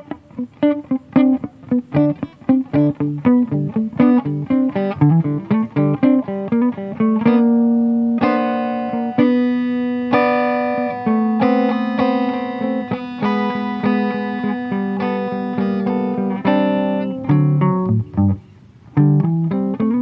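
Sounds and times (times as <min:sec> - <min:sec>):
acoustic guitar played softly: 0:00.0 - 0:20.0.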